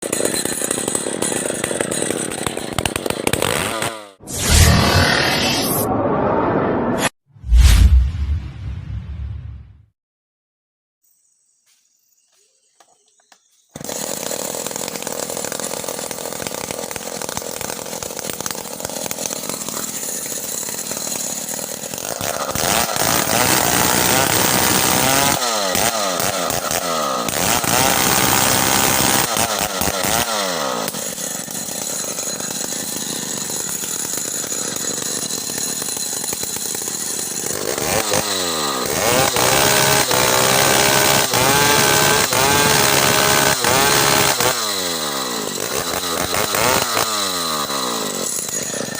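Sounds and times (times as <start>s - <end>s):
chainsaw engine sawing timber: 0.0s - 5.4s, 13.7s - 48.9s.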